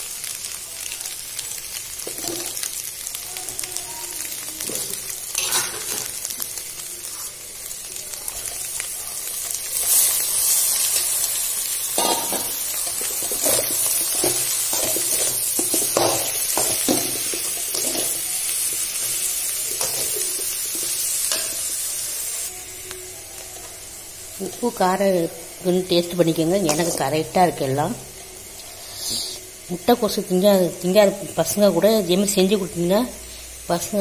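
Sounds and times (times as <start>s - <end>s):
frying sizzle in a pan: 0.0s - 34.0s.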